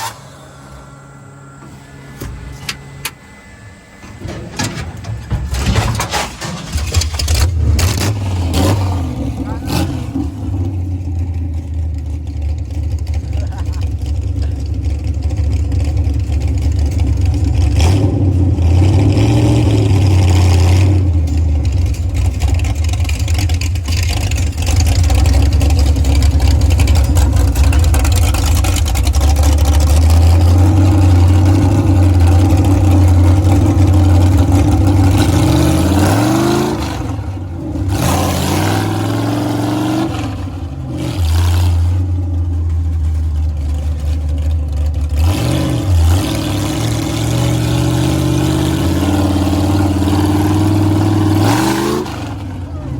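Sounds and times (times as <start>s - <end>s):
truck engine revving: 0.0s - 52.9s.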